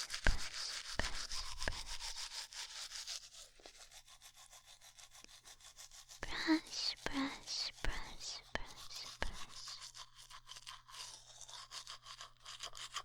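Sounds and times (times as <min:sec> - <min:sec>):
toothbrush scrubbing: 0:00.0 - 0:13.0.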